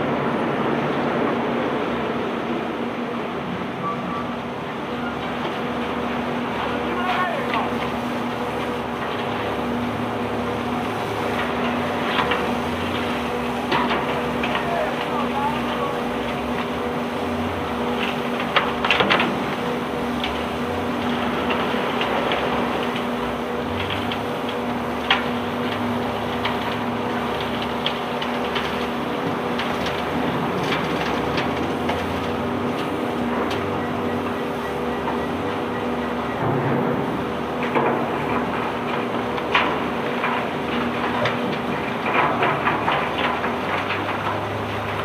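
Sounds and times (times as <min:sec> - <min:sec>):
barge engine humming: 0:00.0 - 0:45.0
unloading machinery running: 0:00.0 - 0:45.0.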